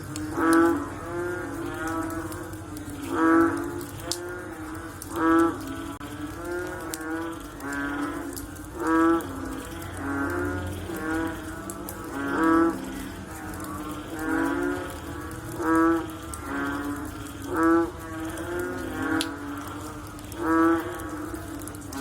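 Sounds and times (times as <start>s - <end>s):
frogs chorus mooing calls: 0.0s - 22.0s.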